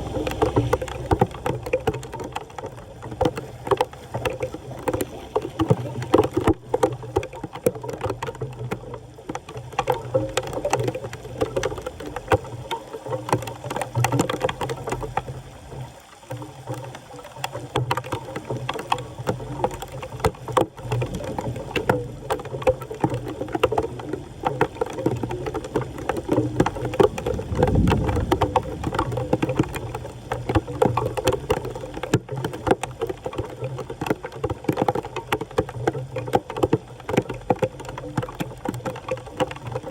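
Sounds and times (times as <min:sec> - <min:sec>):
floodwater splashing and churning: 0:00.0 - 0:39.9.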